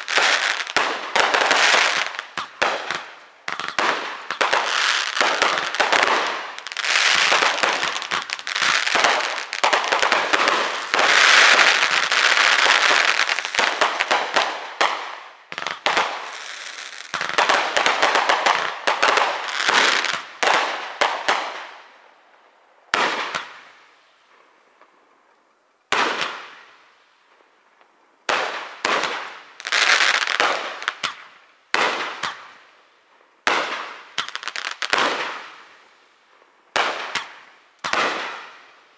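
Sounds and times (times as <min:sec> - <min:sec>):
fireworks bangs: 0:00.0 - 0:22.0, 0:22.9 - 0:24.4, 0:25.9 - 0:26.7, 0:28.3 - 0:32.6, 0:33.4 - 0:35.8, 0:36.7 - 0:38.8.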